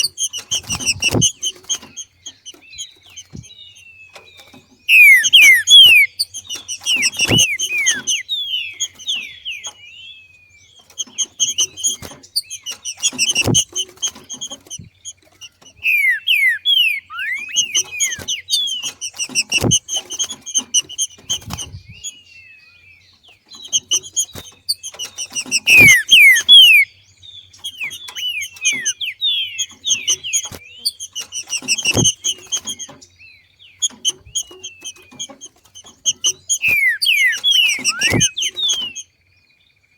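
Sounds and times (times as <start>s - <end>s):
bird rapid falling chirps: 0.0s - 39.1s.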